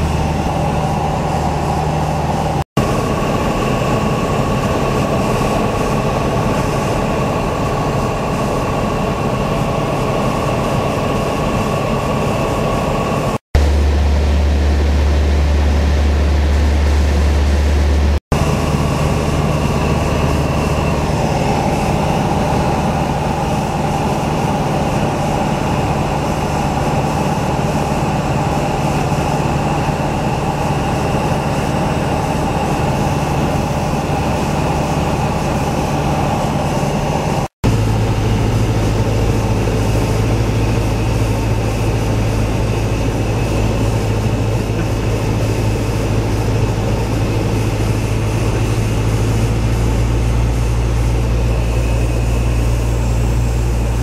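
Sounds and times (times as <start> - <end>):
aircraft engine droning: 0.0 - 54.0.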